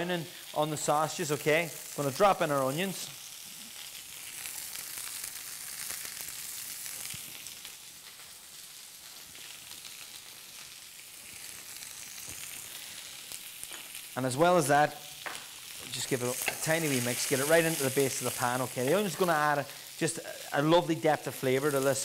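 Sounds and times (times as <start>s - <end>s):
sausages and onion sizzling in a pan: 0.0s - 22.0s.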